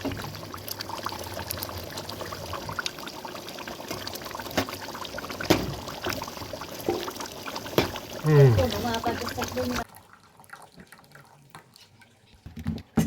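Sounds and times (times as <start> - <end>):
water pouring and trickling: 0.0 - 12.9.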